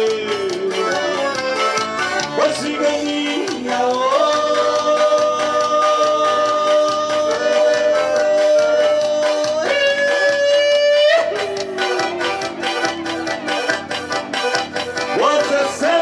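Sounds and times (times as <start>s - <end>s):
live band playing: 0.0s - 16.0s
percussion beat: 0.0s - 16.0s.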